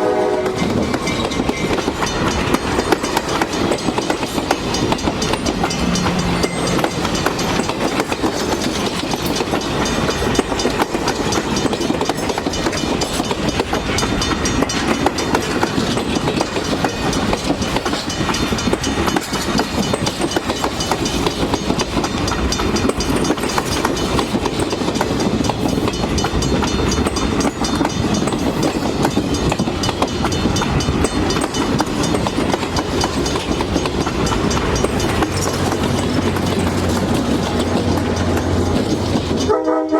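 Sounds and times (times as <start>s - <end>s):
train rumble: 0.0s - 39.9s
wheels clattering on rails: 0.0s - 39.9s.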